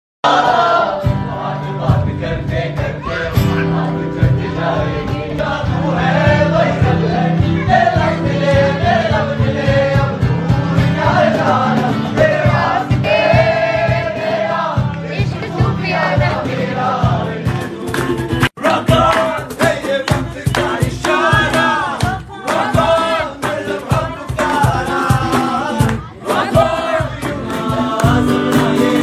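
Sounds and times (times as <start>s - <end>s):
group of voices singing: 0.2s - 29.0s.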